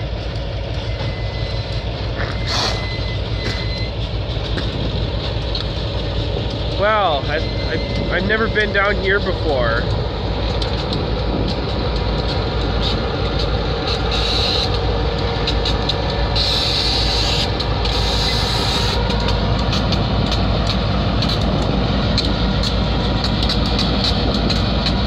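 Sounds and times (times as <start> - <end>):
diesel locomotive engine rumble: 0.0 - 25.0
train wheels clicking over rail joints: 0.0 - 25.0.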